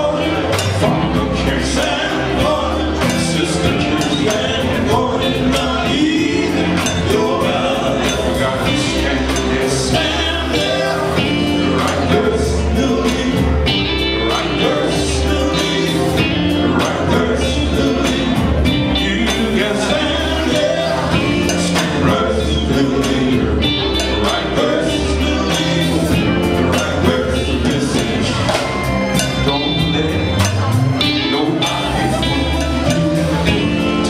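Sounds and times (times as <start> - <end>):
gospel band playing: 0.0 - 34.0
men singing: 0.0 - 34.0.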